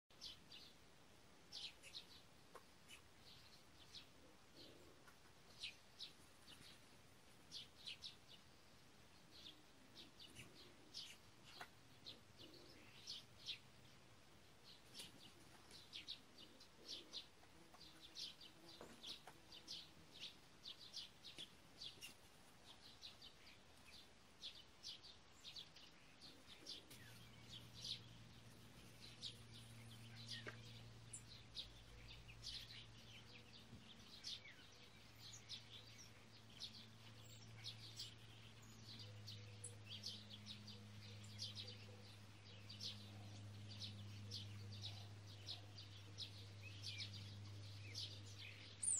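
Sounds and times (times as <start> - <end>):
birds chirping: 0.1 - 0.8, 1.4 - 48.9
low steady hum: 0.1 - 48.9.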